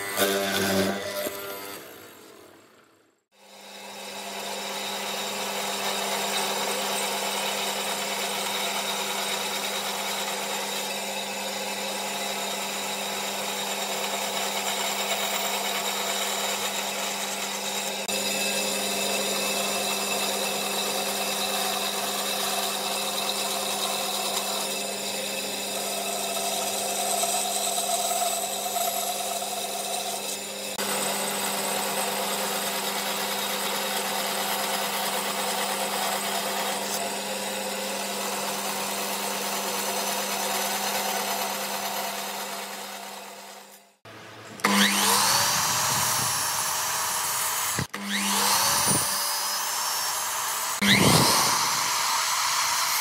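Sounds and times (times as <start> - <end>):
band saw cutting wood: 0.0 - 53.0.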